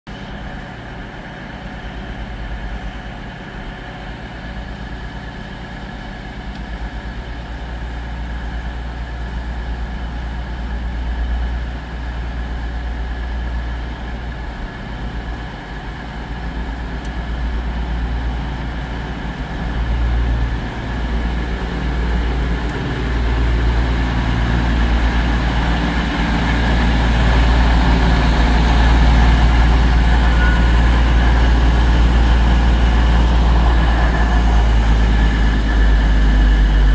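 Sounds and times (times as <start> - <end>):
train diesel engine drone: 0.1 - 36.9.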